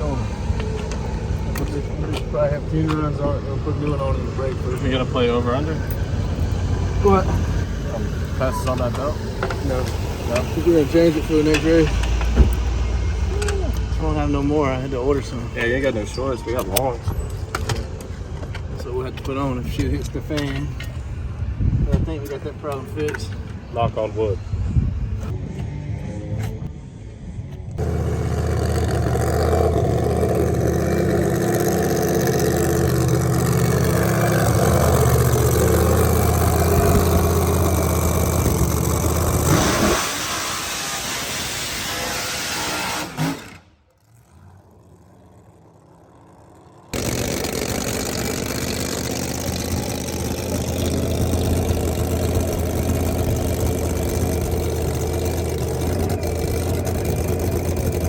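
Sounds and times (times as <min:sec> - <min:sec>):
race car engine running: 0:00.0 - 0:20.8, 0:27.7 - 0:41.0, 0:43.4 - 0:58.0.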